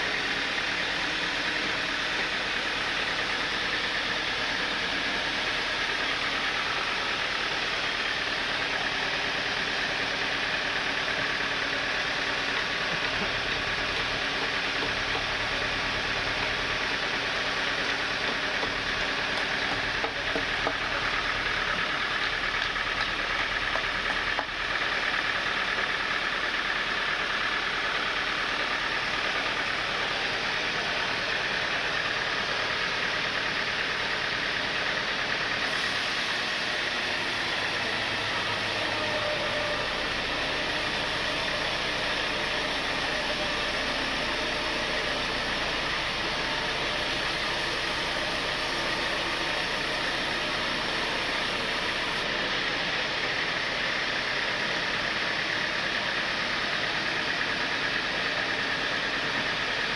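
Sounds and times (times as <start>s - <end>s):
sawmill motor hum: 0.0s - 59.9s.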